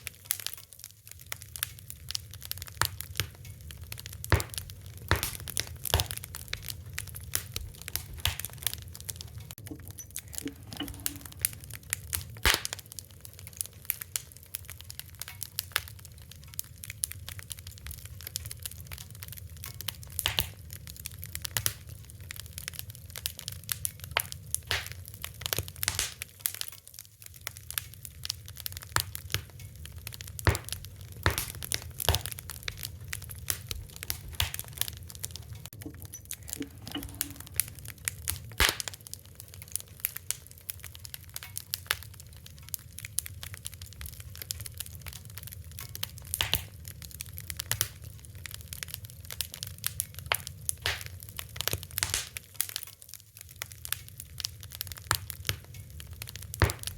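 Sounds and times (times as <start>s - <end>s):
low rumble of burning: 0.0s - 56.9s
wood fire crackling and popping: 0.0s - 56.9s.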